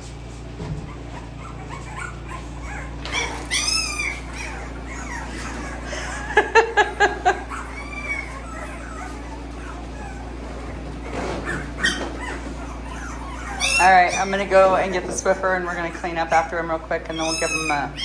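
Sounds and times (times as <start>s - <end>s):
puppies whining: 0.1s - 18.0s
puppies yipping: 0.3s - 18.0s.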